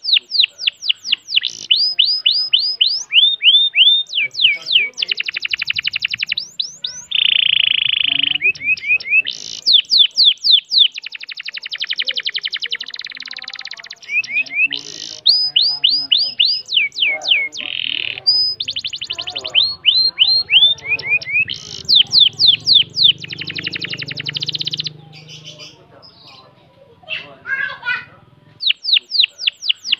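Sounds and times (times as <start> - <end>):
canary singing trills: 0.0 - 29.9.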